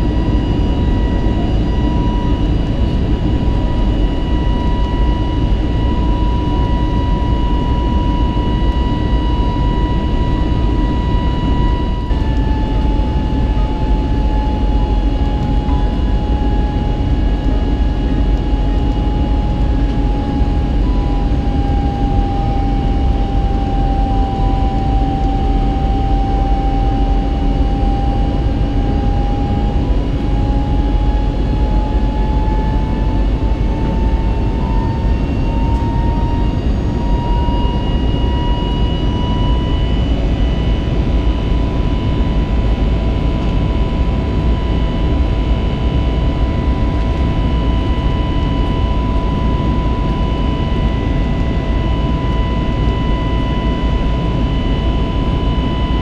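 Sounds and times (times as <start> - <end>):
jet engines roaring in cabin: 0.0 - 56.0.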